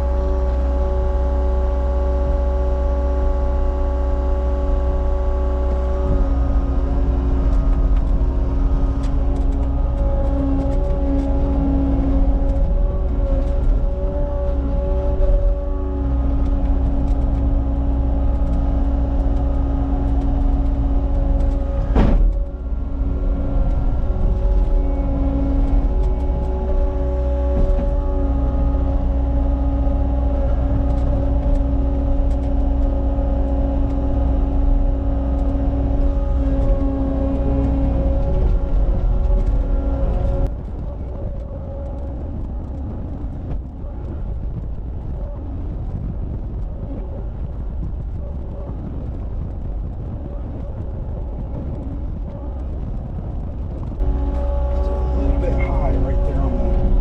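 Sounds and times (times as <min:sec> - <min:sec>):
diesel engine running with whine: 0:00.0 - 0:57.0.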